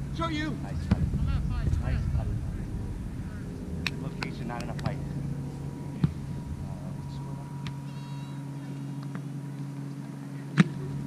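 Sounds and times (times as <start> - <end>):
faint distant voices: 0.0 - 11.0
steady low hum: 0.0 - 11.0.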